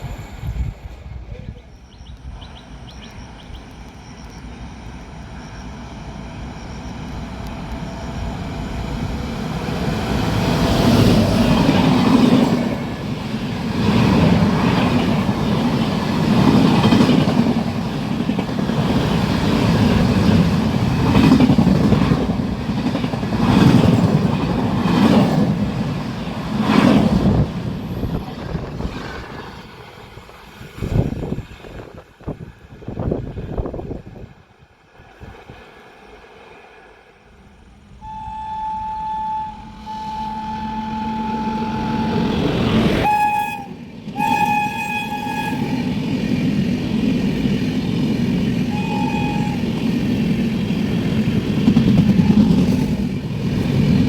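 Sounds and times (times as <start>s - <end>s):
high-speed train passing: 0.0s - 54.0s.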